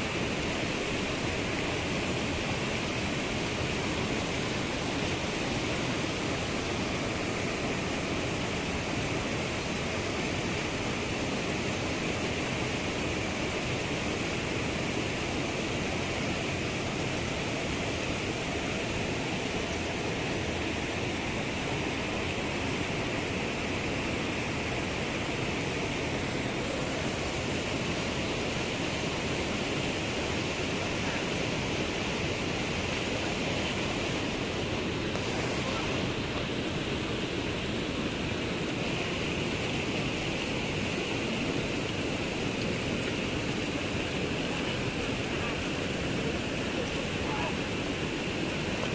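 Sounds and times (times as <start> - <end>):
waterfall rushing into pool: 0.0 - 48.9.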